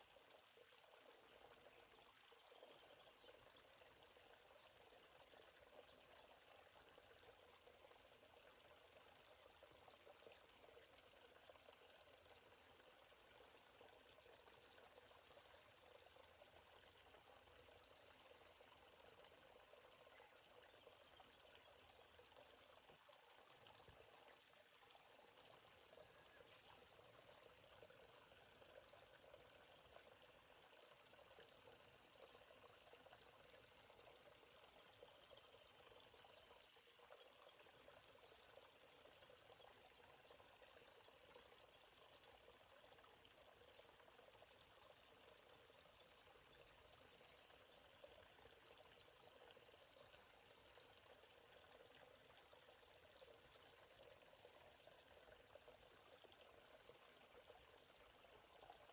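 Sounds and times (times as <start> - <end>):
faint trickling stream: 0.0 - 58.9
insects chirping: 0.0 - 58.9.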